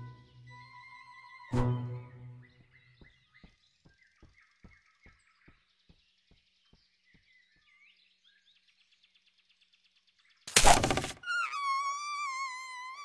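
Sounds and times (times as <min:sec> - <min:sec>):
birds chirping softly: 0:00.0 - 0:13.0.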